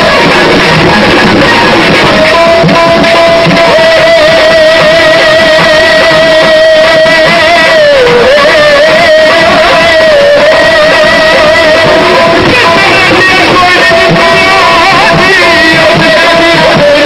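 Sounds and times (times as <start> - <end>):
live dance music: 0.0 - 17.0.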